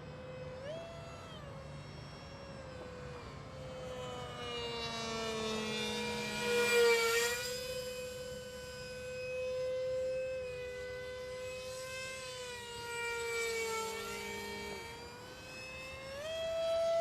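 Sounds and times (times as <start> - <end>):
electric ducted fan whine: 0.0 - 17.0
low steady engine tone: 0.0 - 17.0.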